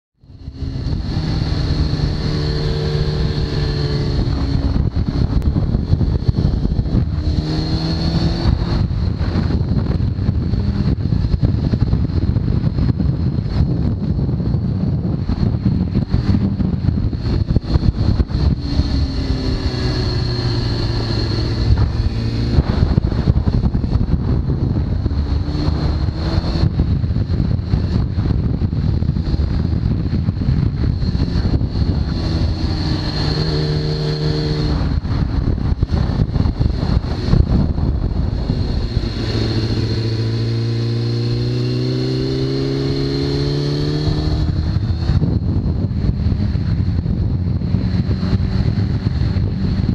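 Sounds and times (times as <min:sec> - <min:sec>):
motorcycle engine accelerating: 0:00.2 - 0:49.9
steady high whine: 0:00.2 - 0:49.9
wind rush: 0:00.2 - 0:49.9.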